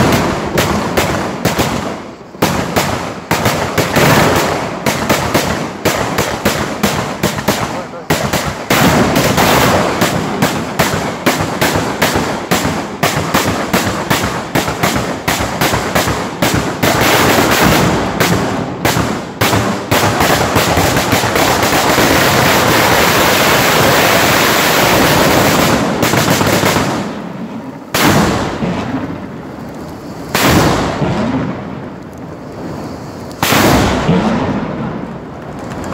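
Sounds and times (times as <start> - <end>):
rapid firework bangs: 0.0 - 29.4, 30.2 - 32.0, 33.3 - 35.9.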